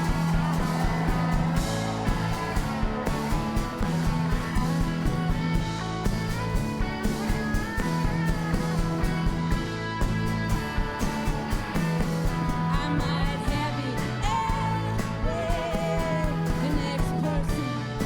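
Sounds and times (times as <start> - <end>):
bass and electric guitar: 0.0 - 18.0
drums beating: 0.0 - 18.0.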